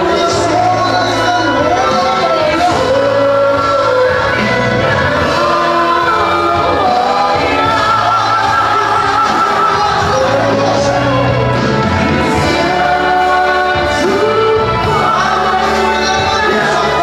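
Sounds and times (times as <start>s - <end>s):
congregation singing: 0.0s - 17.0s
musical accompaniment: 0.0s - 17.0s.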